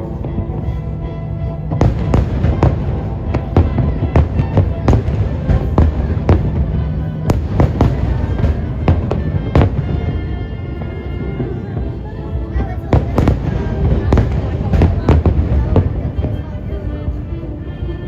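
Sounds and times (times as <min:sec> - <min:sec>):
fireworks bursting: 0:00.0 - 0:17.3
background music: 0:00.0 - 0:18.0.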